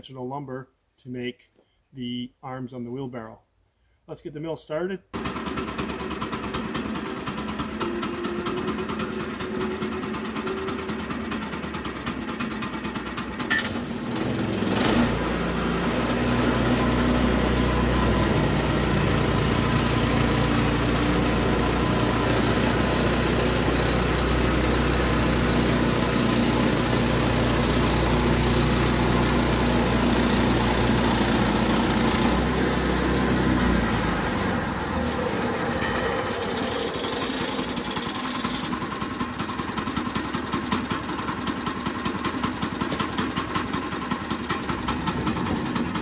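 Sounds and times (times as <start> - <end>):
sawmill gas engine running: 5.2 - 46.0.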